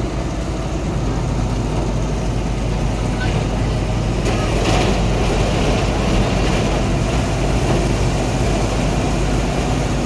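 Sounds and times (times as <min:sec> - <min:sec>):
heavy vehicle engine humming: 0:00.0 - 0:10.0.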